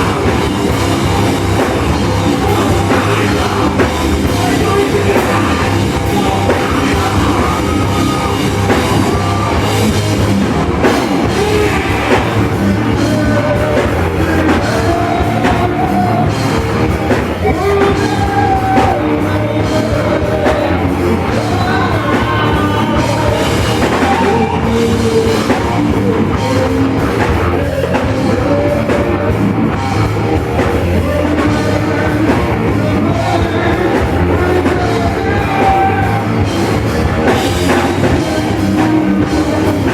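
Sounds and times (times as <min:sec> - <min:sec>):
person singing: 0:00.0 - 0:10.2, 0:10.8 - 0:39.9
drums: 0:00.0 - 0:39.9
loud rock music: 0:00.0 - 0:39.9.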